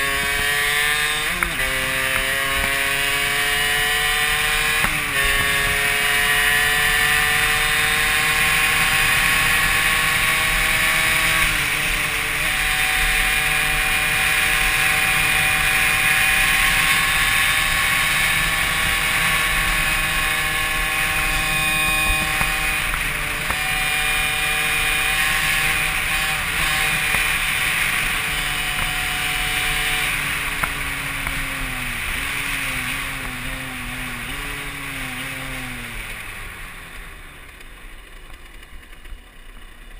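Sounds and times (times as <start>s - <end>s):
motorbike engine shifting gears: 0.0s - 39.9s.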